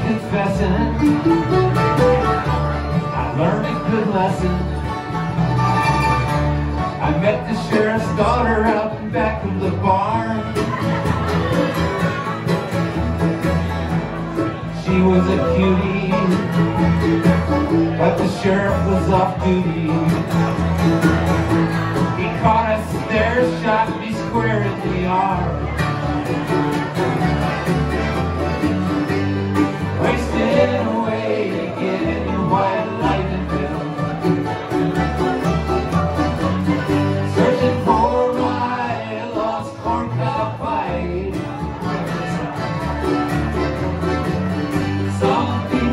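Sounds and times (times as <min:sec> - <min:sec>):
accordion: 0:00.0 - 0:45.9
banjo: 0:00.0 - 0:45.9
mandolin: 0:00.0 - 0:45.9
strummed acoustic guitar: 0:00.0 - 0:45.9
upright bass notes: 0:00.0 - 0:45.9.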